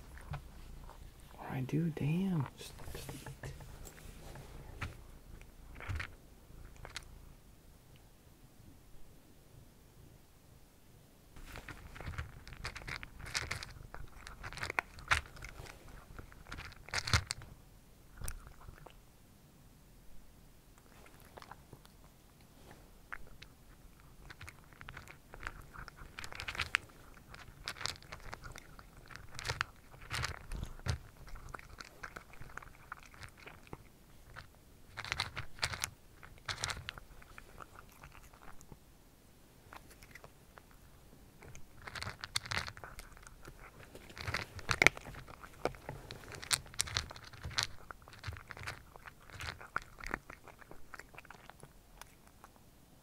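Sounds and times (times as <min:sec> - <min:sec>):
cat crunching dry kibble: 0:00.0 - 0:07.2, 0:11.4 - 0:19.0, 0:20.8 - 0:38.8, 0:39.6 - 0:52.7.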